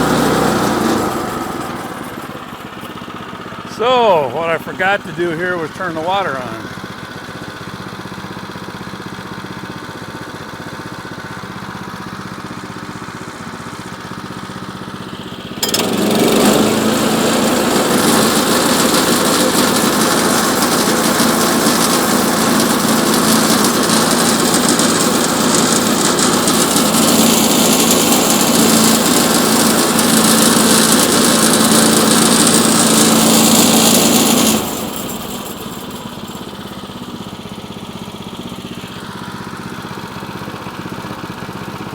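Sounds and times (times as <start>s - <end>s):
gasoline engine running: 0.0s - 41.9s.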